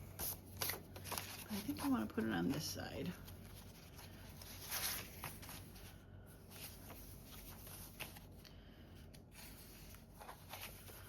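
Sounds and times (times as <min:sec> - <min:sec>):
paper rustling and sliding: 0:00.0 - 0:08.5, 0:09.3 - 0:11.0.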